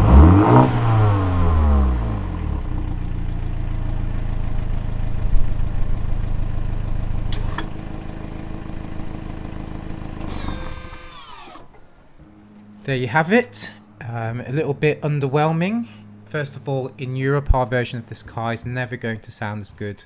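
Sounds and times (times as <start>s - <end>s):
engine whine winding down: 0.0s - 18.4s
car engine idling: 0.0s - 19.2s.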